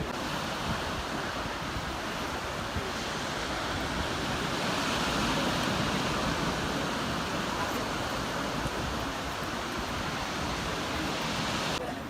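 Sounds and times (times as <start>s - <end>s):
surf washing onto a beach: 0.0s - 12.0s.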